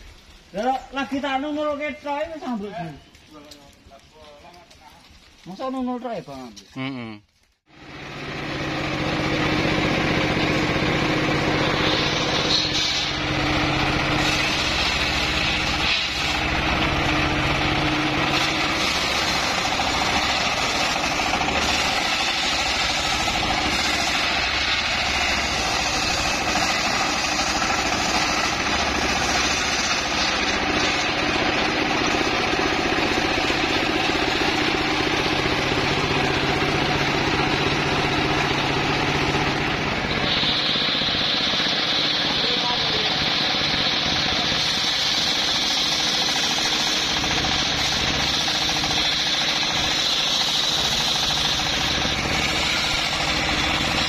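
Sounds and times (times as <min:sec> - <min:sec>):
circular saw running: 0:07.7 - 0:54.0.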